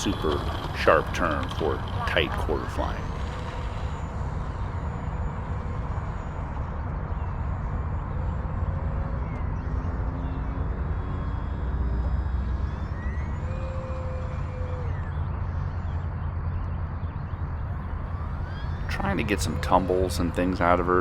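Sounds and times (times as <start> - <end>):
model plane propeller whining: 0.0 - 8.5, 10.2 - 16.2, 17.6 - 21.0
steady low rumble: 0.0 - 11.5, 12.1 - 21.0.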